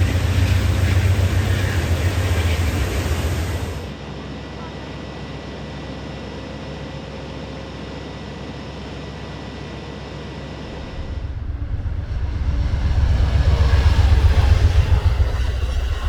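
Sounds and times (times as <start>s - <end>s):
diesel locomotive drone: 0.0s - 16.0s.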